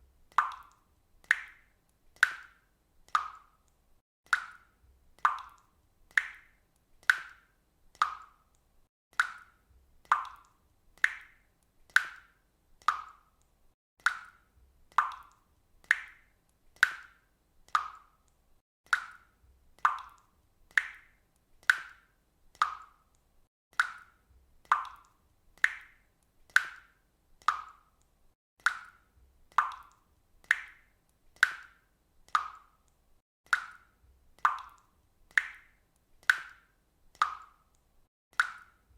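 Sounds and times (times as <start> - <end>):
water dripping: 0.1 - 38.9.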